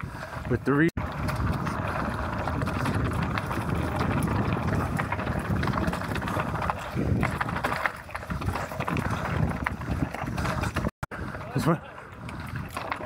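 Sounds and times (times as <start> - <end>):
bike tyres crunching on dirt: 0.0 - 13.0
wind on microphone: 0.0 - 13.0.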